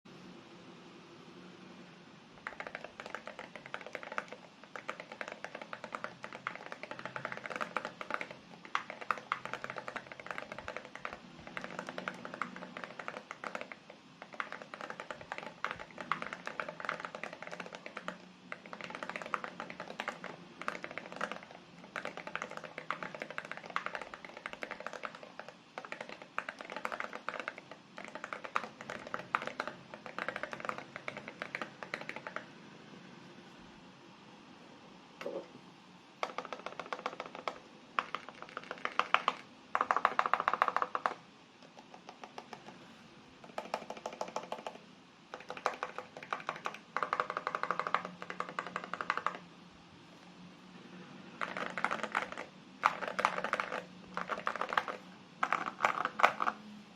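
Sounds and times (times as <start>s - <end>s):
fast mechanical keyboard typing: 2.4s - 32.6s, 36.2s - 49.5s, 50.8s - 56.8s.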